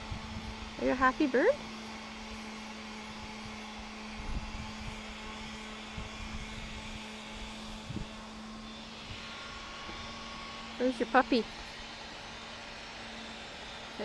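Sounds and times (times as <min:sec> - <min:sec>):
low steady hum: 0:00.0 - 0:14.0
mechanical drone: 0:00.0 - 0:14.0.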